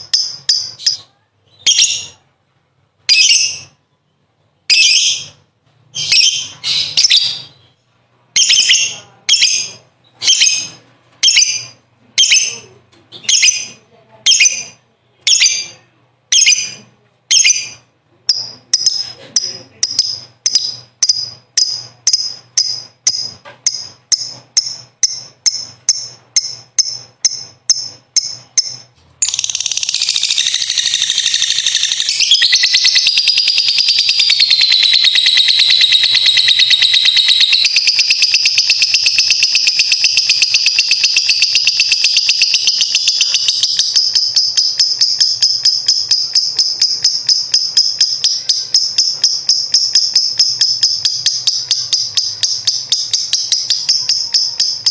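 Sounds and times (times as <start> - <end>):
lovebird chirping and chattering: 0.0 - 2.2, 3.0 - 3.8, 4.7 - 54.9.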